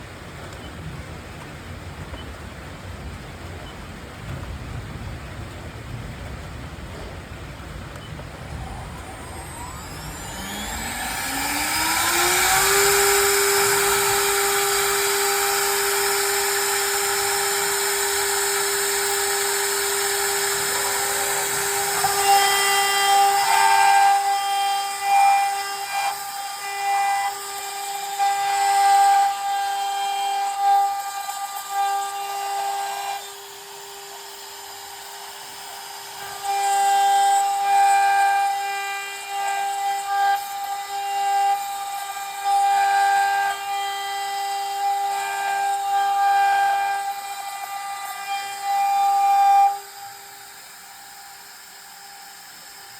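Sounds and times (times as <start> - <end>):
router spindle whine: 7.8 - 52.9
router bit carving wood: 8.2 - 52.9.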